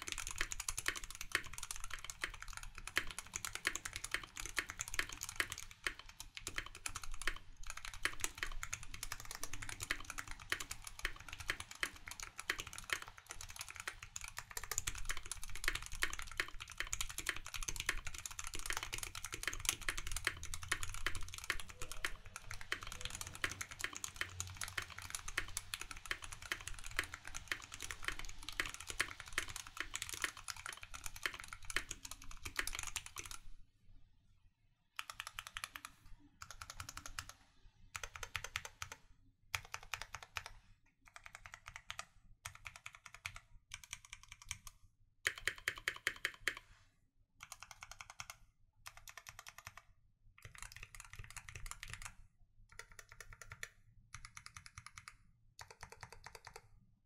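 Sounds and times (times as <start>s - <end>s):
mechanical keyboard typing: 0.0s - 33.5s, 35.0s - 46.7s, 47.4s - 56.7s.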